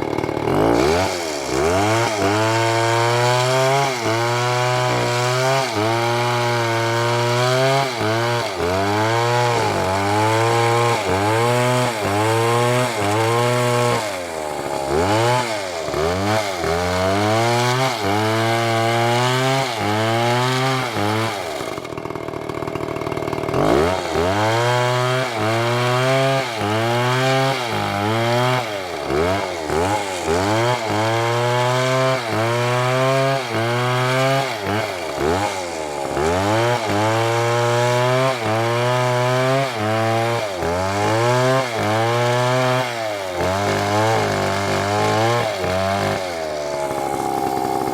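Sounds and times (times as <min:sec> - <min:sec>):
chainsaw cutting through wood: 0:00.0 - 0:47.9
chainsaw idling: 0:00.0 - 0:47.9.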